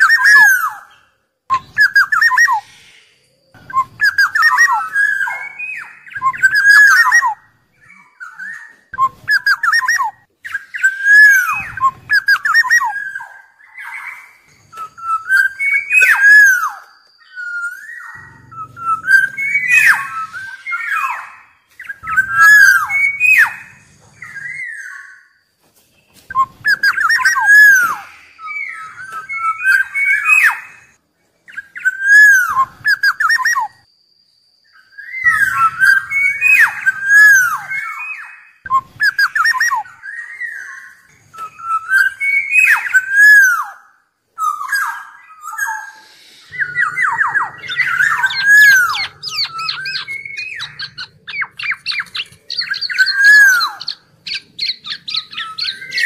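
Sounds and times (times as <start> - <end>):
bird calling fluty whistles: 0.0 - 56.0.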